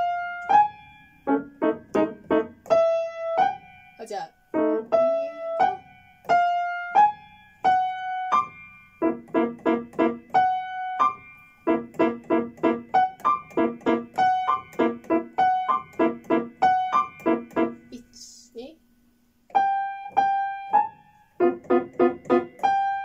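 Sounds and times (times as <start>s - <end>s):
grand piano played haltingly: 0.0s - 17.9s, 19.5s - 23.0s.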